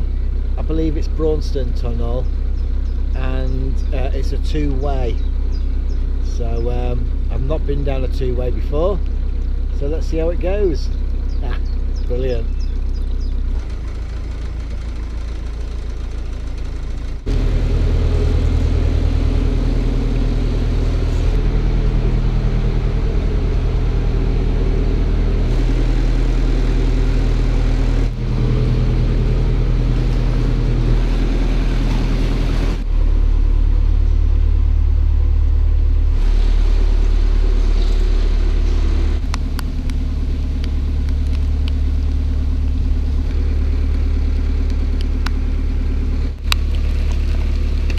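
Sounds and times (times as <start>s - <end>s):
diesel boat engine running: 0.0s - 47.9s.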